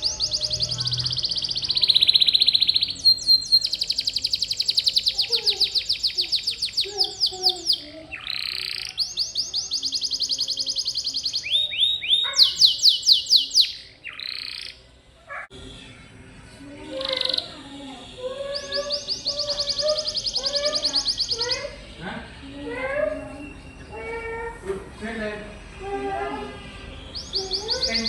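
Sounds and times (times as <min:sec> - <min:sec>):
canary singing trills: 0:00.0 - 0:16.2, 0:16.8 - 0:24.6, 0:25.5 - 0:28.0.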